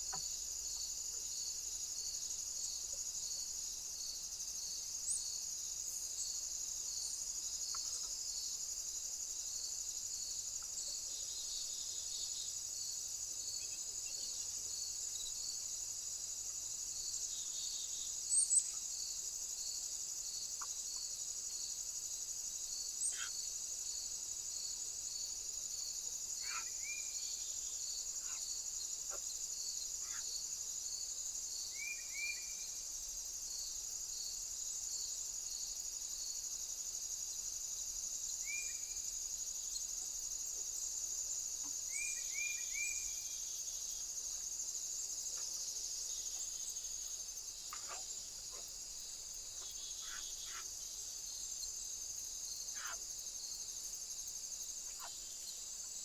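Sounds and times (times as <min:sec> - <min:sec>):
insects buzzing and chirping: 0:00.0 - 0:56.0.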